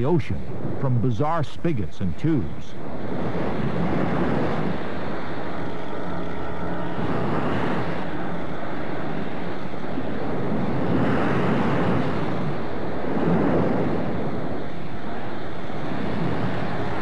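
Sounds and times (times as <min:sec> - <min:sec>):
ocean surf washing over shore: 0:00.0 - 0:17.0.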